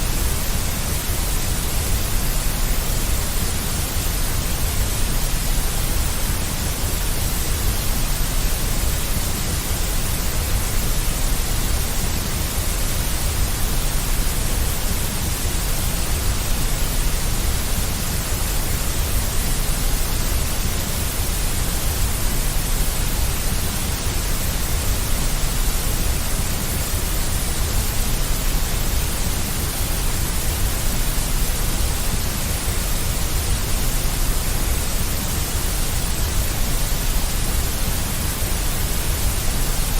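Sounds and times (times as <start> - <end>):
deep white noise: 0.0 - 39.9.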